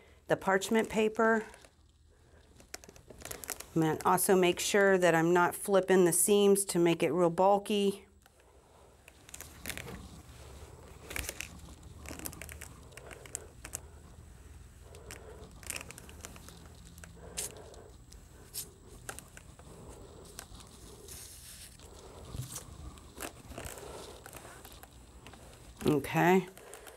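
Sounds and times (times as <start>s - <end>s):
fabric rustling and crinkling: 0.9s - 4.4s, 8.3s - 26.9s.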